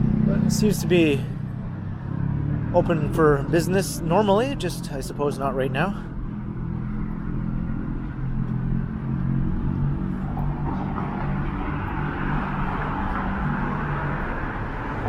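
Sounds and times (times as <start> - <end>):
tyre noise of passing cars: 0.0 - 15.0
vehicle engine humming: 0.0 - 15.0.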